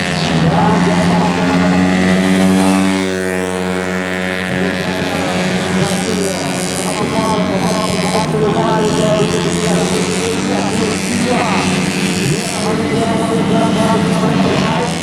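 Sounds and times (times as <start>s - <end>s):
scooter engine running: 0.0s - 15.0s.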